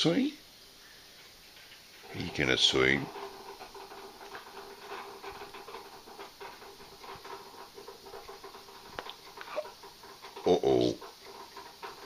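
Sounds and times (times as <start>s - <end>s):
faint steady hum: 0.0s - 12.0s
parrot rustling and scratching: 0.8s - 12.0s.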